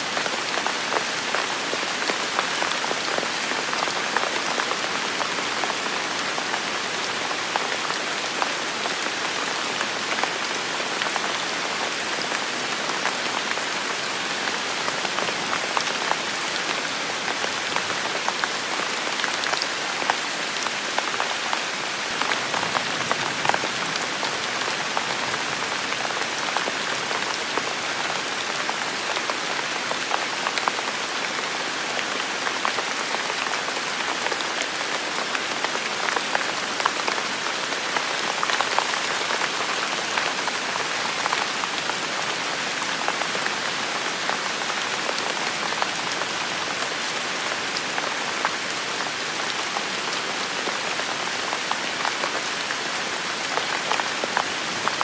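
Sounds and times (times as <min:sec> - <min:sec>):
heavy rain on forest: 0:00.0 - 0:55.0.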